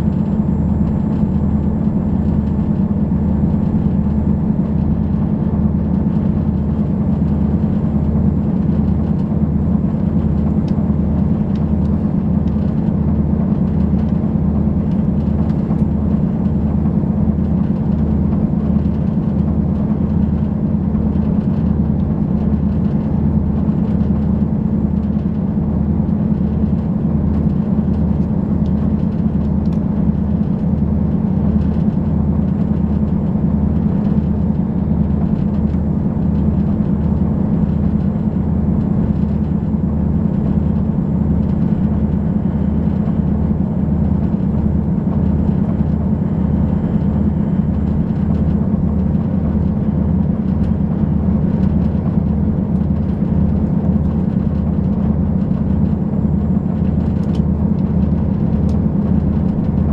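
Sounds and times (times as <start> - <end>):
railcar engine and track drone: 0.0 - 59.9.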